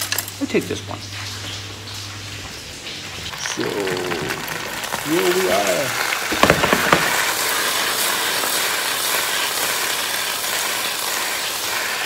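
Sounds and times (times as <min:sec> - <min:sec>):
potato slices sizzling in oil: 0:00.0 - 0:12.0.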